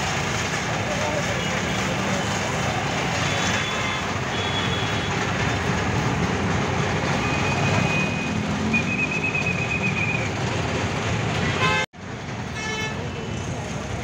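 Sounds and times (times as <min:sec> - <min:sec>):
street noise: 0:00.0 - 0:14.0
vehicle engine rumble: 0:00.0 - 0:14.0.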